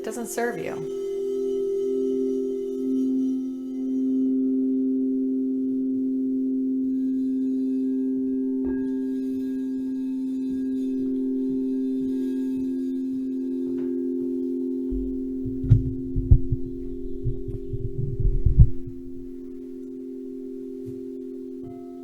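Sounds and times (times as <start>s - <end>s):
singing bowl strike: 0.0s - 22.0s
singing bowls ringing: 0.0s - 22.0s.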